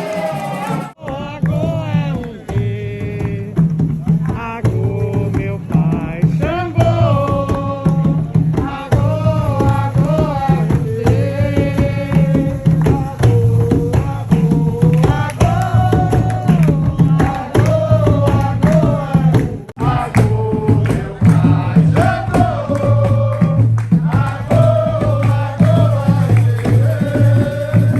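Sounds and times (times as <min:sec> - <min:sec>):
hand drums beating: 0:00.0 - 0:27.9
voices singing: 0:00.0 - 0:27.9.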